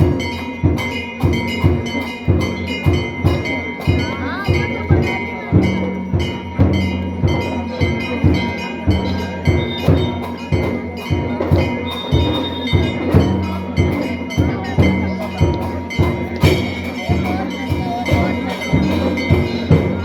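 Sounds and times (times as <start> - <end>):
drum beaten in steady rhythm: 0.0 - 20.0
metal bells ringing: 0.0 - 20.0.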